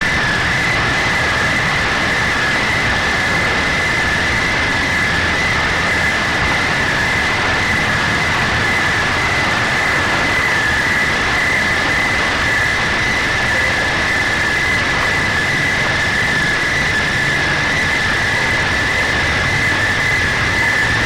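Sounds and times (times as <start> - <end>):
machine noise with high whine: 0.0 - 21.0.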